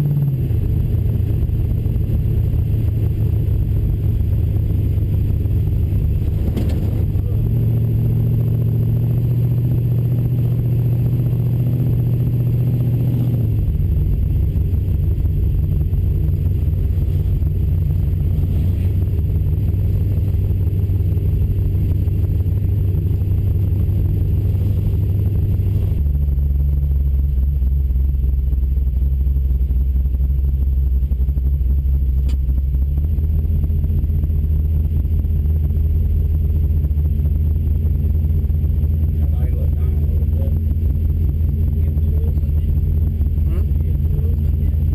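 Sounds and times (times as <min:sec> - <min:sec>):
car engine running while driving: 0:00.0 - 0:44.9.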